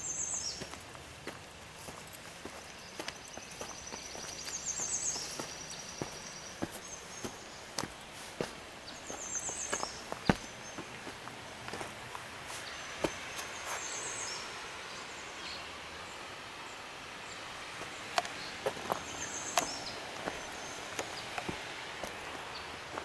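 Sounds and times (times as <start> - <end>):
steady outdoor hiss: 0.0 - 23.0
footsteps on gravel: 0.1 - 13.9, 17.8 - 23.0.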